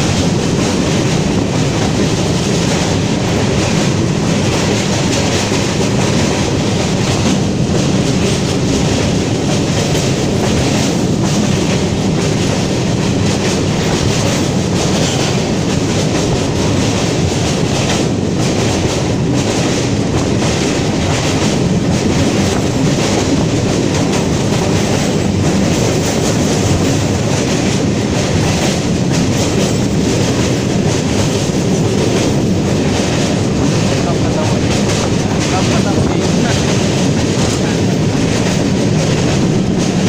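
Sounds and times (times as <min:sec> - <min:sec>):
train rumbling: 0:00.0 - 0:40.0
wheels clattering on rails: 0:00.0 - 0:40.0.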